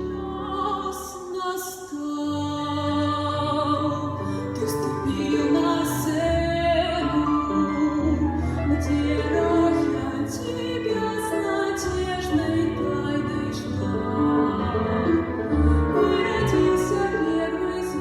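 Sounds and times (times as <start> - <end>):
woman singing: 0.0 - 18.0.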